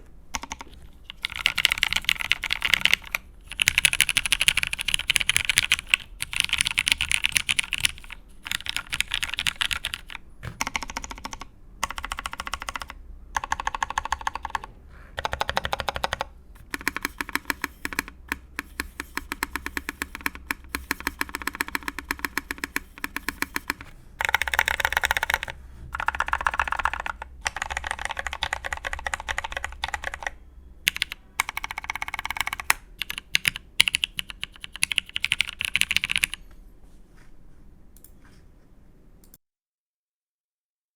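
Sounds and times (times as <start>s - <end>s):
mechanical keyboard typing: 0.3s - 36.4s.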